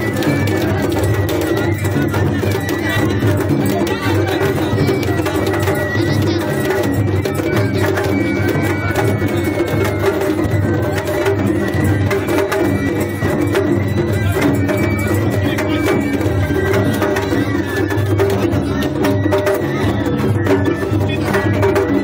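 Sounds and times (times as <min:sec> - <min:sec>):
taiko drums beating: 0:00.0 - 0:22.0.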